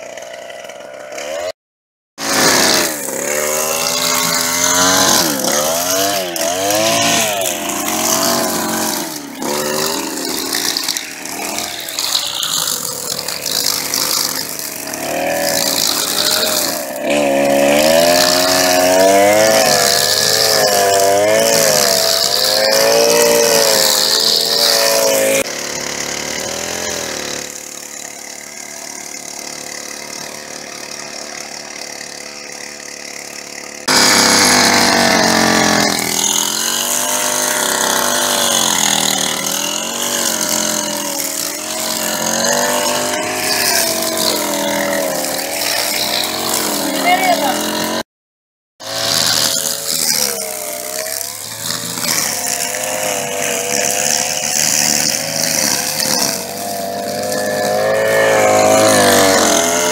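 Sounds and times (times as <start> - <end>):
string trimmer engine cutting grass: 0.0 - 1.6, 2.2 - 48.1, 48.8 - 59.9.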